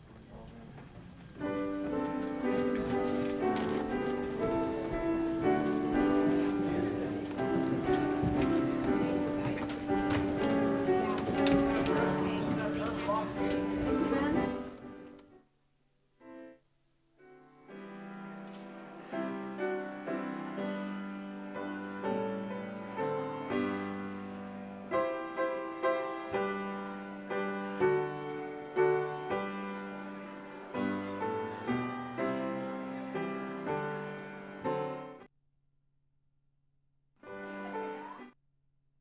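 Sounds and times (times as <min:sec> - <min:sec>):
slow piano piece: 0:00.0 - 0:15.4, 0:17.2 - 0:35.3, 0:37.3 - 0:38.4.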